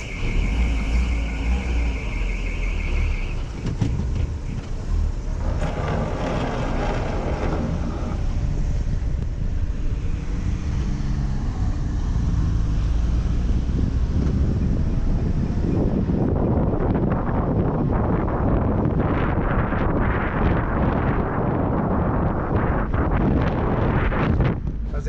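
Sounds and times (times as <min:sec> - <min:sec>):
car engine and road rumble: 0:00.0 - 0:25.0
wind buffeting microphone: 0:03.3 - 0:25.0.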